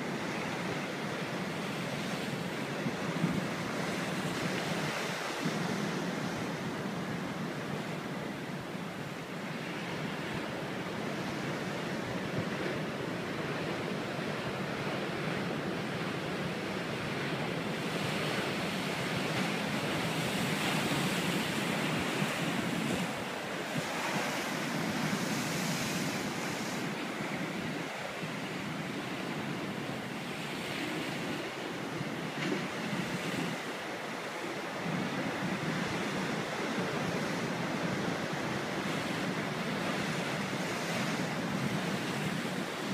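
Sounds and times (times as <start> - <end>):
ocean surf pounding on rocks: 0.0 - 42.9.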